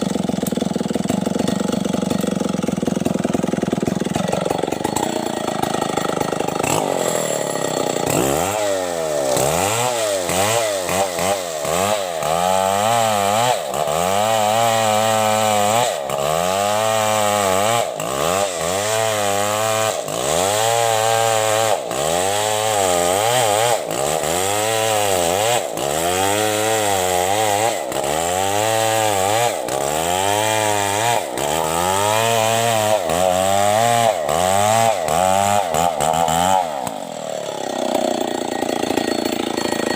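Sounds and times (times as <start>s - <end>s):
chainsaw cutting through trunk: 0.0s - 39.9s.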